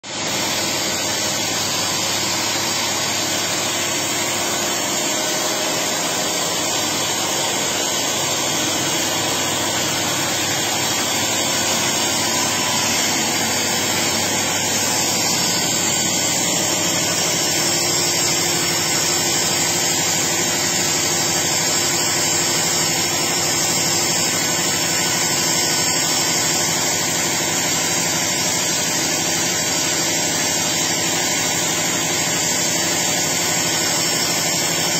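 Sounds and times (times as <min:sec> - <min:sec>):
generator engine running: 0:00.0 - 0:34.9.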